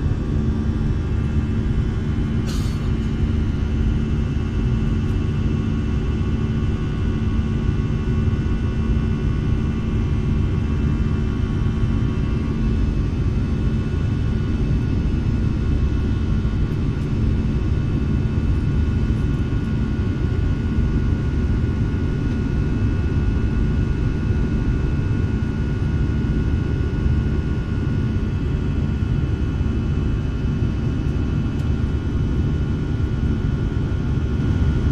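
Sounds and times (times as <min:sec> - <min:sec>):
jet airliner cabin rumble: 0:00.0 - 0:34.9.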